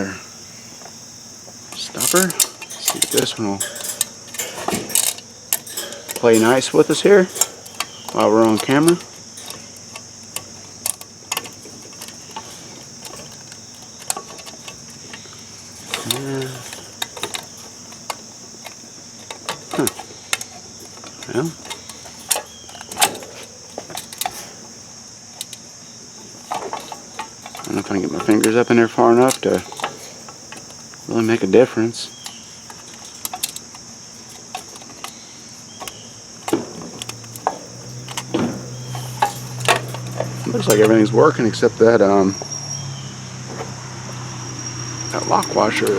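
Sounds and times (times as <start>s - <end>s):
high-pitched hiss: 0.0s - 45.9s
low electrical hum: 0.0s - 45.9s
small parts clicking and tapping: 0.7s - 41.0s.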